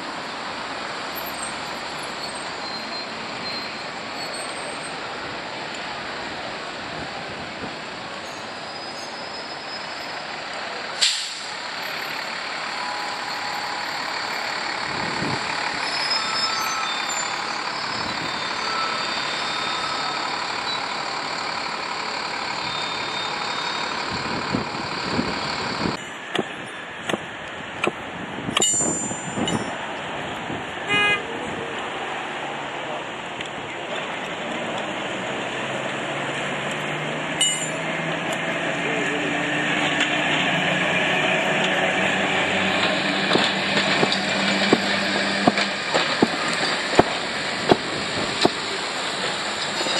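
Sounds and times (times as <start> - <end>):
traffic noise: 0.0 - 49.9
trams clicking and knocking past: 7.2 - 49.9.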